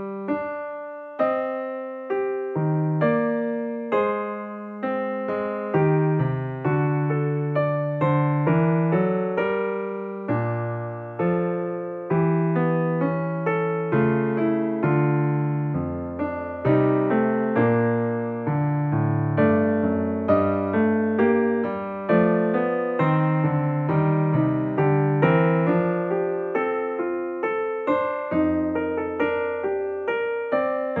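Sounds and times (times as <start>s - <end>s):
gentle keyboard tune: 0.0s - 31.0s.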